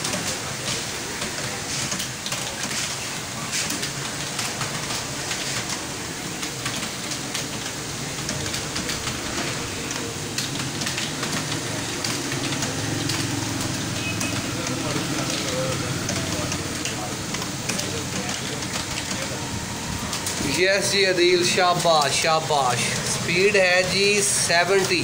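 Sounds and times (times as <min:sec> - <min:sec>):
fast keyboard typing: 0:00.1 - 0:25.0.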